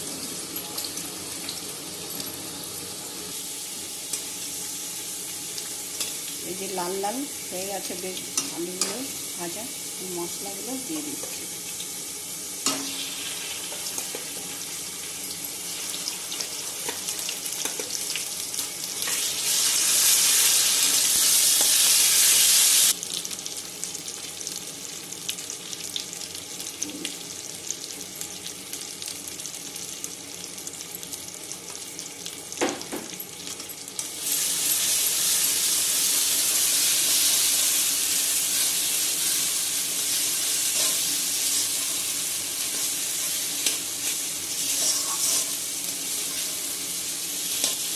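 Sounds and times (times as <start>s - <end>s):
potatoes sizzling in oil: 0.0s - 47.9s.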